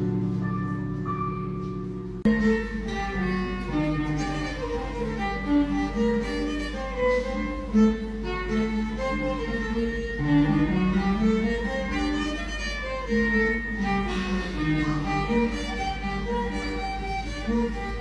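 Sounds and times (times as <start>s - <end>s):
keyboard chords: 0.0s - 18.0s
violin melody: 0.0s - 18.0s.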